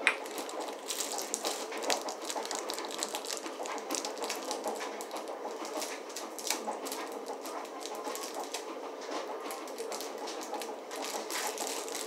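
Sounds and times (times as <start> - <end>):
plastic candy wrapper crinkling: 0.0 - 8.6, 9.5 - 12.0.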